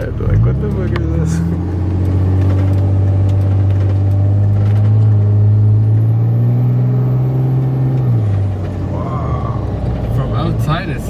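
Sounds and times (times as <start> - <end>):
diesel engine accelerating: 0.0 - 11.0.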